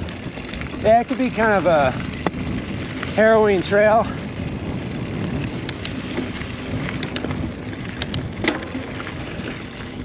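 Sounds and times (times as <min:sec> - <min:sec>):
bike tyres rolling on dirt: 0:00.0 - 0:10.0
gravel and bike parts clicking: 0:00.0 - 0:10.0.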